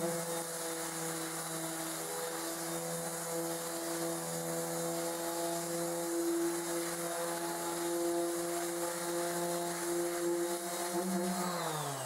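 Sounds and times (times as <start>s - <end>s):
orbital sander running: 0.0s - 12.0s.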